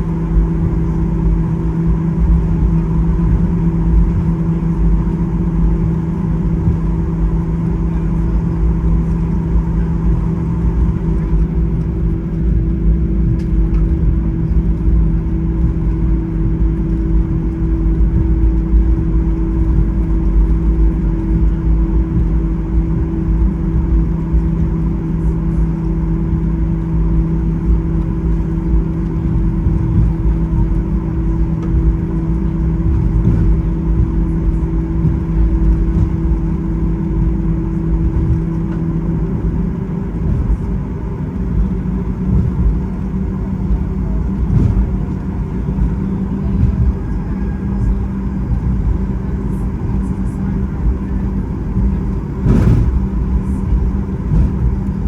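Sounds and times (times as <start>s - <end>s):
constant hum: 0.0s - 55.0s
vehicle interior rumble: 0.0s - 55.0s.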